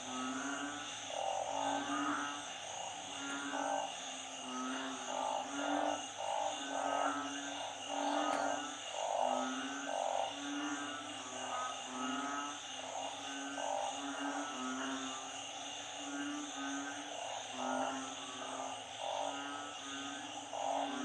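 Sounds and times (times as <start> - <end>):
frogs croaking: 0.0 - 21.0.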